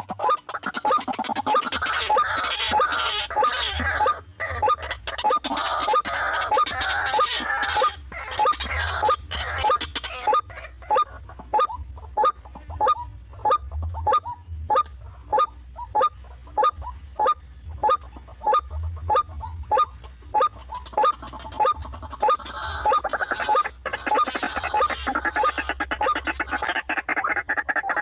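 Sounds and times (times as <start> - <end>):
waterhen harsh honking calls: 0.0 - 28.0.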